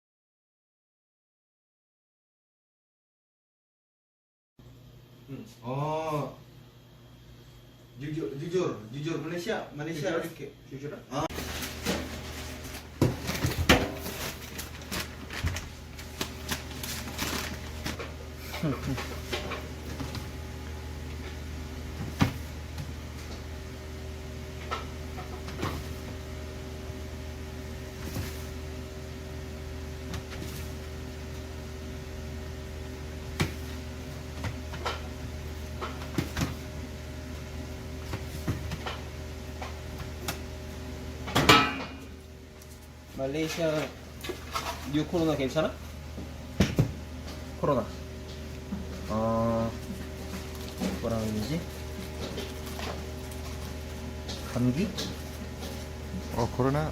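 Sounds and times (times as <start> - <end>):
steady low hum: 4.6 - 56.9.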